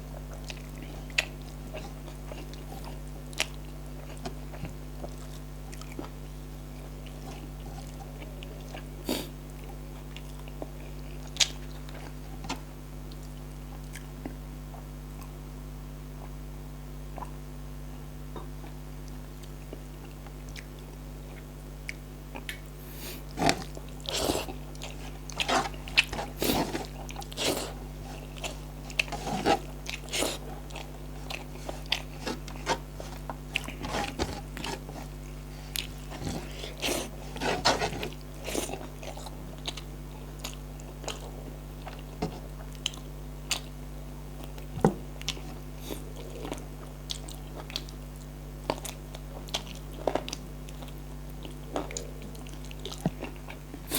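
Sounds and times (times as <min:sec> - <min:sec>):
person chewing and crunching: 0:00.1 - 0:15.4, 0:19.4 - 0:43.8, 0:44.4 - 0:53.9.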